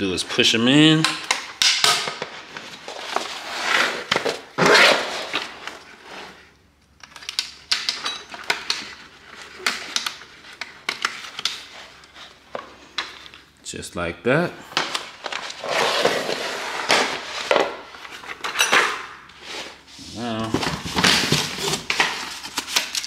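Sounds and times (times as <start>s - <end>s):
plastic rustling and scraping: 2.1s - 7.3s, 8.0s - 13.5s, 14.8s - 23.0s.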